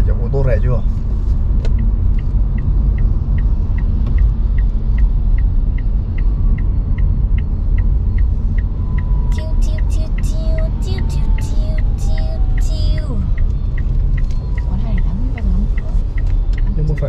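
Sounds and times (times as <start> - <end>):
road and tyre rumble in car: 0.0 - 17.0
regular ticking: 1.7 - 17.0.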